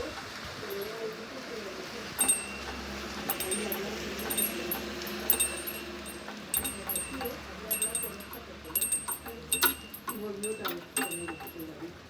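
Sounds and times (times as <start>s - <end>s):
small bells clinking: 0.6s - 1.1s, 2.2s - 12.0s.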